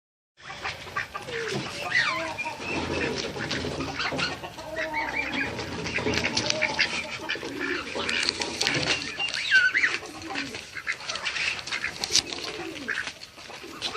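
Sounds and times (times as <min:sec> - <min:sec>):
chickens and ducks clucking: 0:00.4 - 0:13.9.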